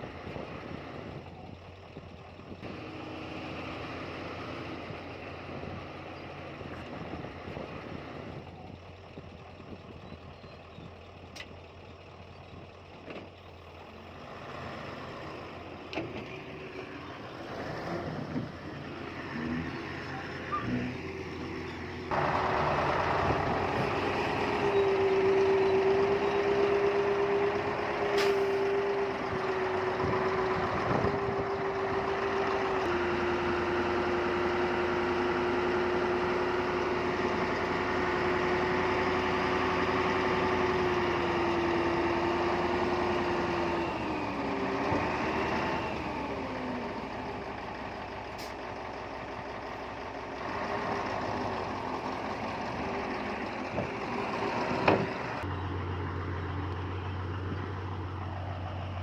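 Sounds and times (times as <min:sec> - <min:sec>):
engine whine: 0:00.0 - 0:59.0
heavy machine diesel engine running: 0:00.0 - 0:59.0.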